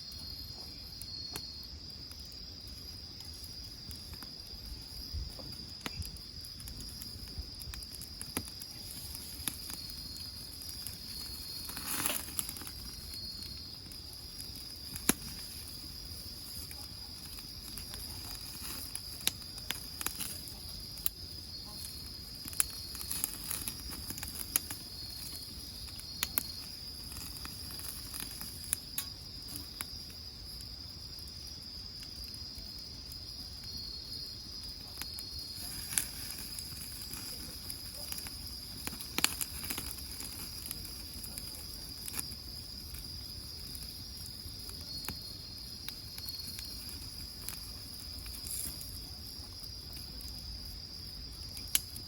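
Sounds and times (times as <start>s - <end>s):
insects trilling: 0.0s - 52.0s
wood fire crackling: 0.0s - 52.0s.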